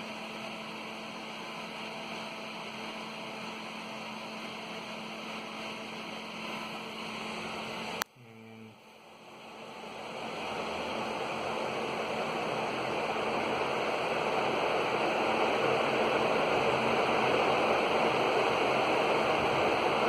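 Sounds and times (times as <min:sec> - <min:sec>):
electric fan air rushing: 0:00.0 - 0:08.0, 0:08.8 - 0:20.0
fan motor hum: 0:00.0 - 0:20.0.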